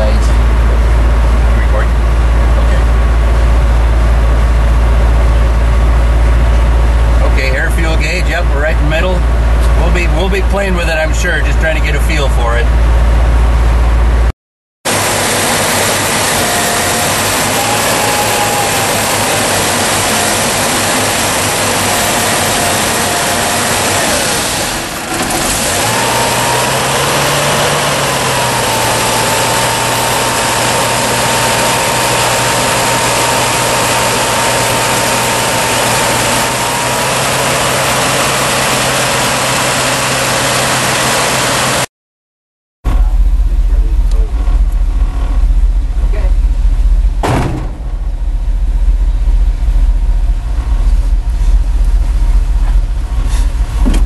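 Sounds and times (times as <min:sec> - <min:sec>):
truck engine idling: 0:00.0 - 0:14.3, 0:14.9 - 0:41.9, 0:42.9 - 0:54.0.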